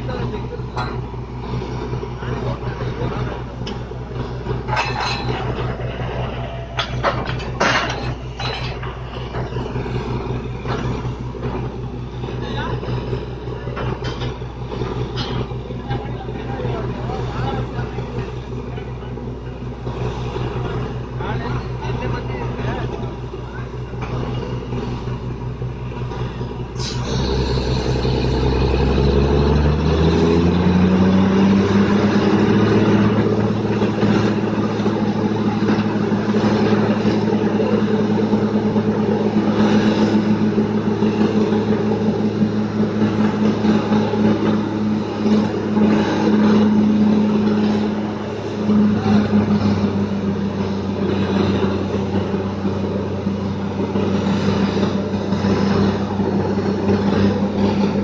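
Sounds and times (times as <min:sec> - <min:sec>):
broad rushing noise: 0:00.0 - 0:58.0
drilling rig engine: 0:00.0 - 0:58.0.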